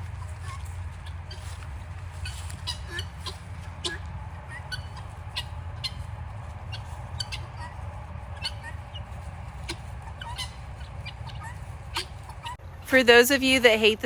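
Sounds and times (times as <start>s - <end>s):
guinea fowl calling: 0.0s - 12.8s
low rumble: 0.0s - 12.9s.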